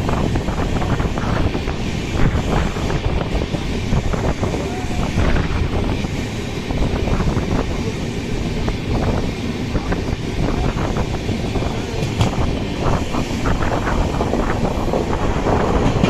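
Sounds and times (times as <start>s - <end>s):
train wheels rumbling on track: 0.0s - 16.0s
wind buffeting microphone: 0.0s - 16.0s.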